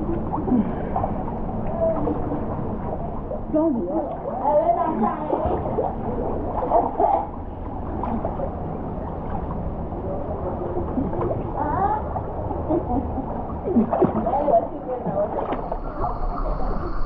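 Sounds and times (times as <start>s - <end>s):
steady low water rush: 0.0s - 17.0s
water sloshing and gurgling: 0.0s - 17.0s.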